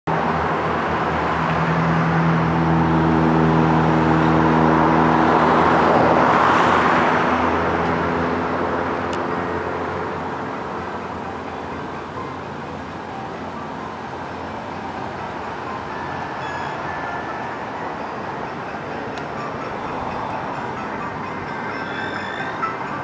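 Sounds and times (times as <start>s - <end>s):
road vehicle passing: 0.1s - 23.0s.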